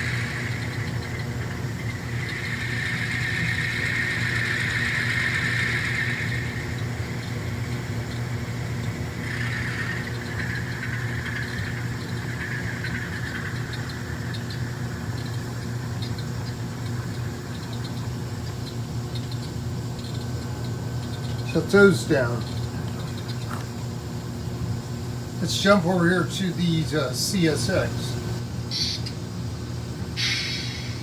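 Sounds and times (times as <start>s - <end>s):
model locomotive engine drone: 0.0s - 31.0s.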